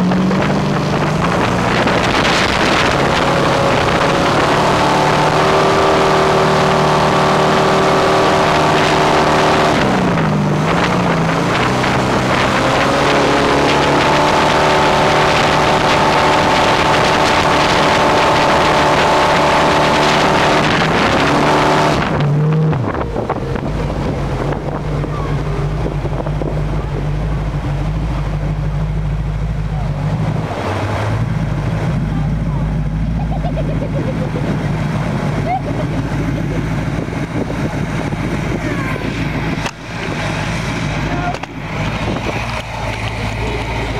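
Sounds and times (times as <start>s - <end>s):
wind across microphone: 0.0s - 32.6s, 34.1s - 43.9s
speedboat engine running hard: 0.0s - 43.9s.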